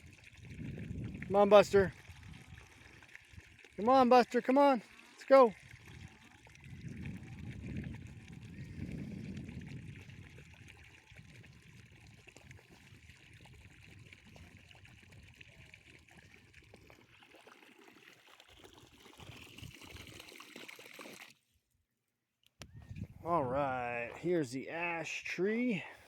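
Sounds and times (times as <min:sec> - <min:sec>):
water trickling and splashing: 0:00.0 - 0:21.4.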